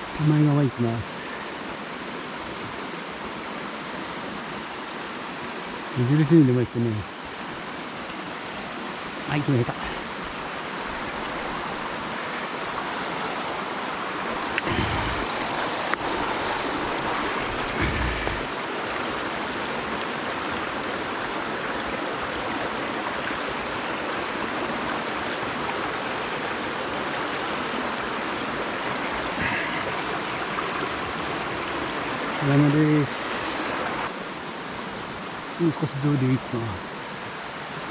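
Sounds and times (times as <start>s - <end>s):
stream water rushing: 0.0s - 37.9s.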